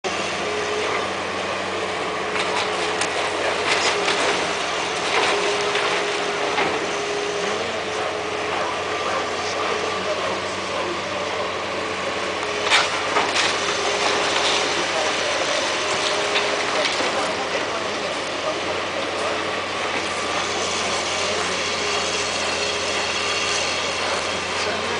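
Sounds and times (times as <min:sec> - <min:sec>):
diesel engine humming: 0:00.0 - 0:24.9.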